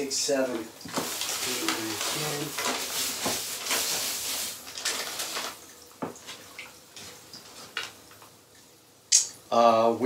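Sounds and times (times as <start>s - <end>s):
plastic bags and foil rustling: 0.0s - 8.3s.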